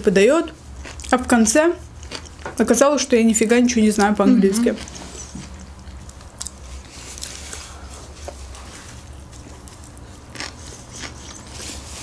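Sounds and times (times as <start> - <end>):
person chewing: 0.5 - 2.6, 4.0 - 12.0.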